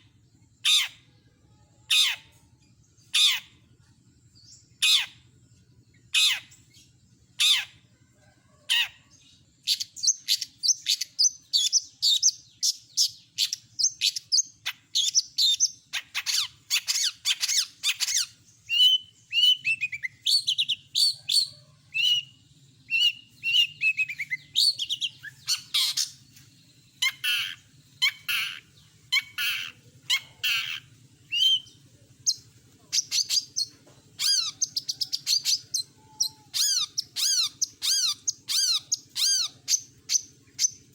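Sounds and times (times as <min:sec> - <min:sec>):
bird singing harsh squawks: 0:00.0 - 0:01.2, 0:01.8 - 0:02.4, 0:03.0 - 0:03.7, 0:04.7 - 0:05.3, 0:06.0 - 0:07.9, 0:09.6 - 0:26.3, 0:27.0 - 0:40.8.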